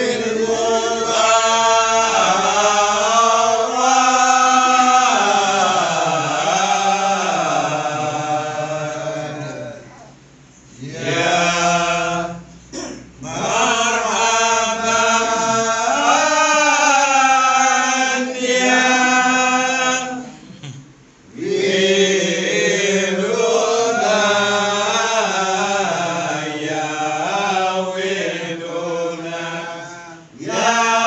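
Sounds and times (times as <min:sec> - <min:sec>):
men chanting devotional song: 0:00.0 - 0:09.8, 0:10.7 - 0:20.4, 0:21.3 - 0:31.0.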